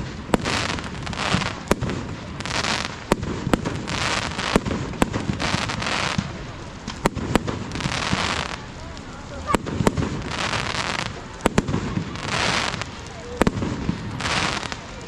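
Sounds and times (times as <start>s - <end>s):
crackling hiss: 0.0s - 15.0s
fireworks bangs: 0.0s - 15.0s.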